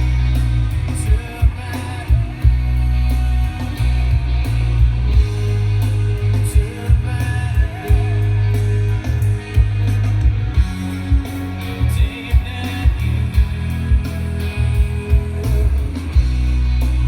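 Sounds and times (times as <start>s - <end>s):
heavy sustained bass notes: 0.0s - 17.0s
rock song through speakers: 0.0s - 17.0s.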